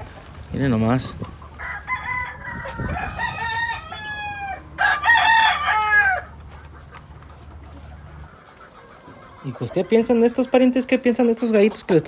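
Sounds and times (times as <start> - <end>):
roosters crowing: 0.9 - 11.2.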